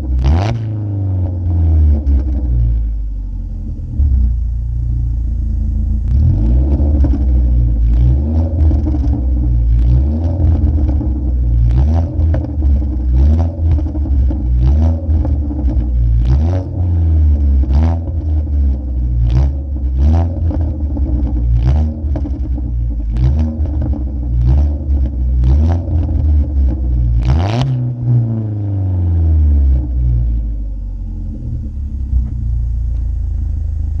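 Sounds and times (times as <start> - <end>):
exhaust crackles and pops: 0.0 - 28.6, 29.6 - 34.0
car engine revving: 0.0 - 34.0.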